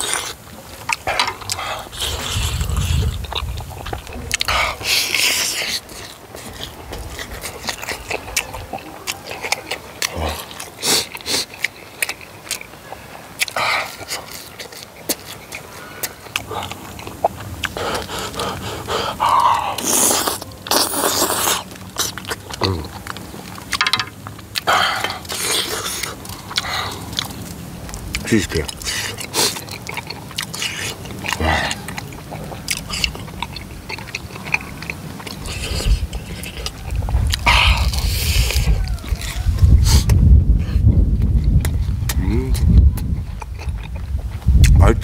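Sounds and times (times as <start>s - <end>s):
crunching fried batter: 0.0s - 45.0s
wet chewing: 0.0s - 45.0s.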